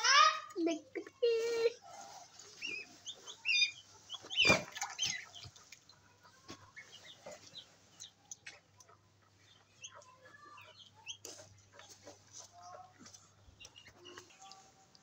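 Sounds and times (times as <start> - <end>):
chicks peeping: 1.2 - 15.0.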